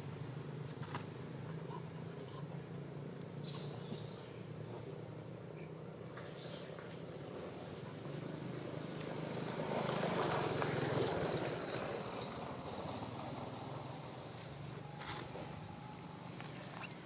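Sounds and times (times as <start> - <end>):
passing motor vehicle hum: 0.0 - 17.0.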